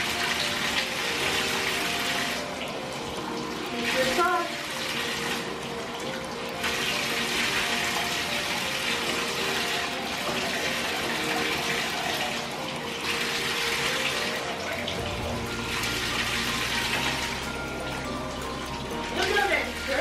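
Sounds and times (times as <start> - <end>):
water running in a bathtub: 0.0 - 20.0.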